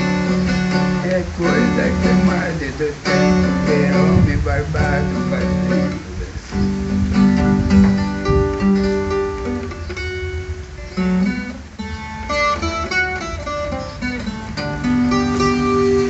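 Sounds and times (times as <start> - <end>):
steel-string guitar picking: 0.0 - 16.0.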